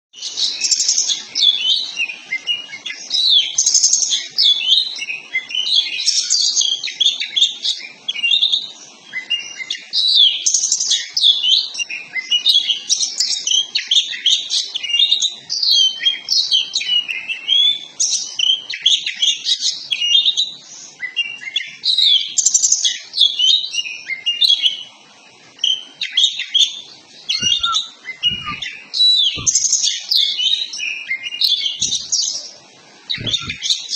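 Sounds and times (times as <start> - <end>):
bird singing whistles and chirps: 0.2 - 24.9, 25.5 - 33.9.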